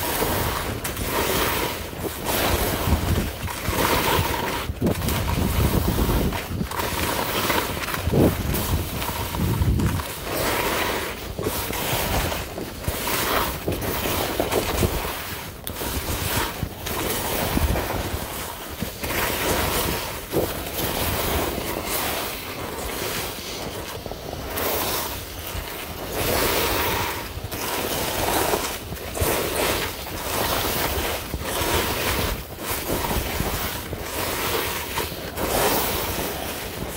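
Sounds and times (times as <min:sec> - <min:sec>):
skis scraping over packed snow: 0:00.0 - 0:36.9
wind on microphone: 0:00.0 - 0:36.9.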